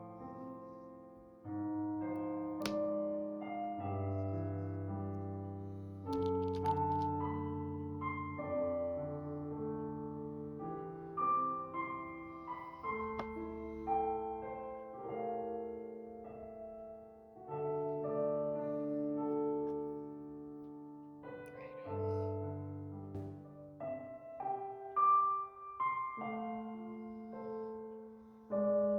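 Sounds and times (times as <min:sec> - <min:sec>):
soft slow piano music: 0:00.0 - 0:28.9.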